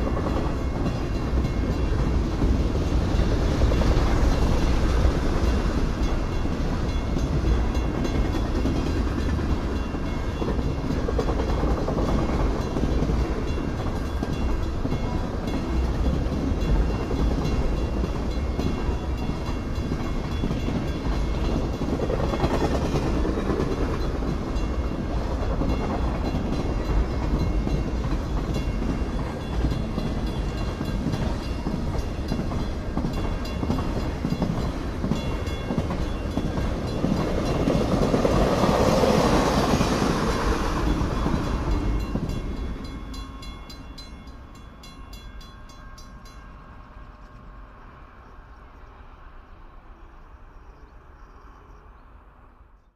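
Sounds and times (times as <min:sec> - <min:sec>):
freight train cars rolling: 0:00.0 - 0:50.3.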